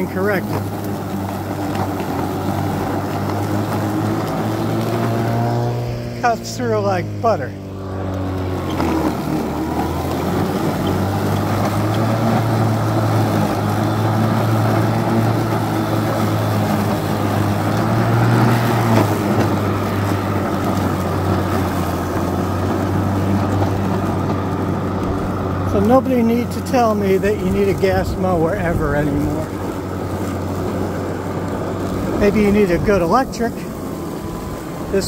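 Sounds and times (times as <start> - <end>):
electric lawn mower humming: 0.0 - 35.0
grass being cut: 0.0 - 35.0.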